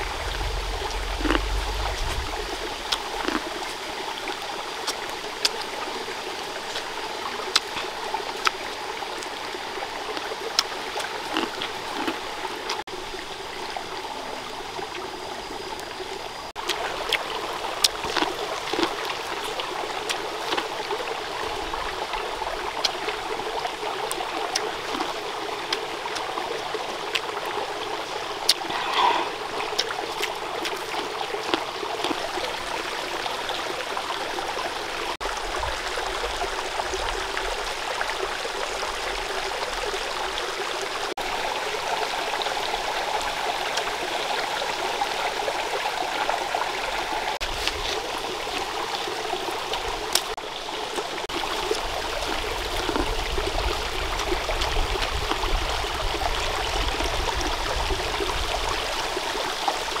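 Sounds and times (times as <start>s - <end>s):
stream flowing over stones: 0.0s - 60.0s.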